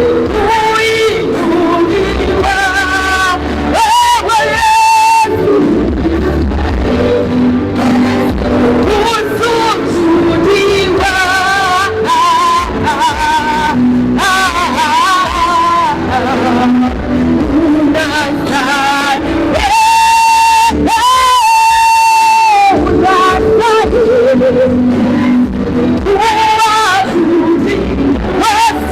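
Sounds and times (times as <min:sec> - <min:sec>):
worship music with singing: 0:00.0 - 0:28.9.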